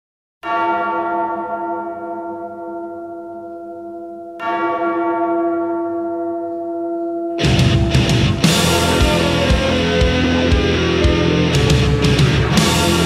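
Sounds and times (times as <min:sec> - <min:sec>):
deep bell tolling: 0:00.4 - 0:13.0.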